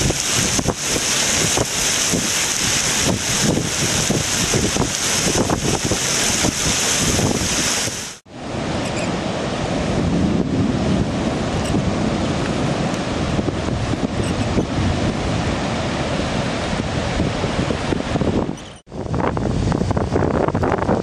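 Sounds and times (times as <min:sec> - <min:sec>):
rain and floodwater rushing: 0:00.0 - 0:20.8
wind buffeting microphone: 0:00.0 - 0:21.0.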